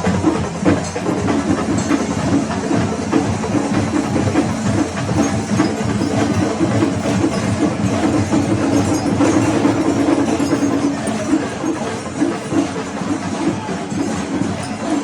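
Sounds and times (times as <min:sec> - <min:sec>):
drums and cymbals playing: 0:00.0 - 0:15.0.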